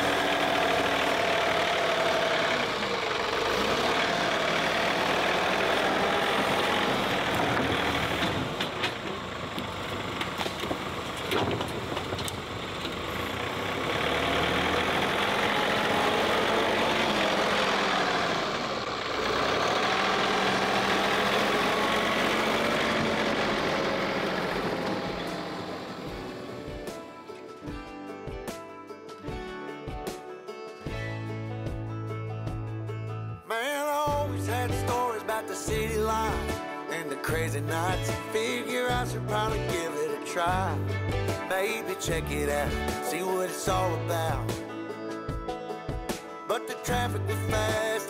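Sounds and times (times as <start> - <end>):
tractor diesel engine under load: 0.0 - 27.8, 34.1 - 44.8, 46.8 - 48.0.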